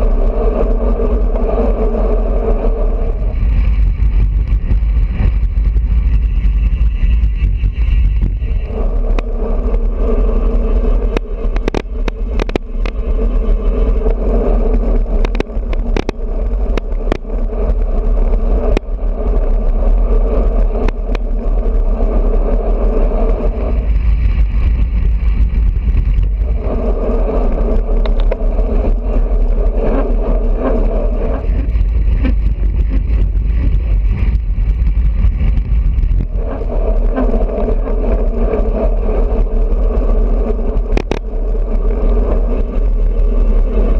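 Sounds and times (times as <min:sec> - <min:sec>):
sharp clicks and rattles: 0:00.0 - 0:43.9
wind buffeting microphone: 0:00.0 - 0:43.9.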